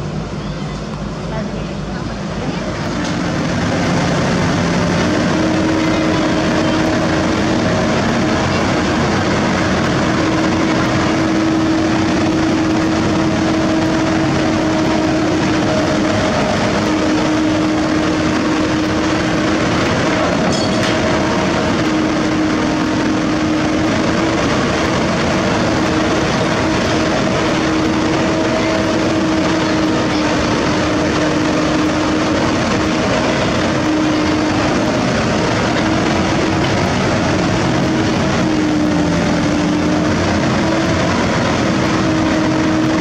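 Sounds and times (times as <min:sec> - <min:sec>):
diesel engine droning: 0:00.0 - 0:43.0.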